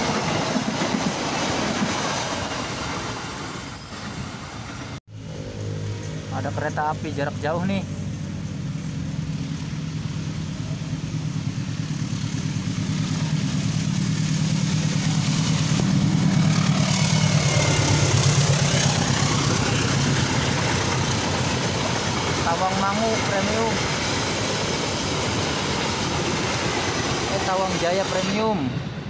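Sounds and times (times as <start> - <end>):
train wheels on rails: 0.0 - 5.0, 8.0 - 29.0
diesel locomotive engine: 0.0 - 29.0.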